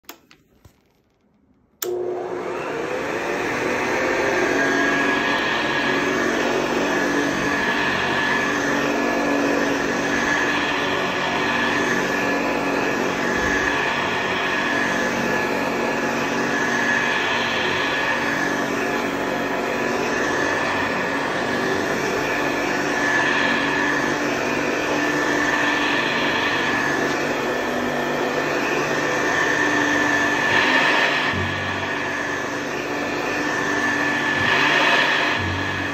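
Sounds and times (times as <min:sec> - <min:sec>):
upright vacuum cleaner on carpet: 0:01.8 - 0:35.9.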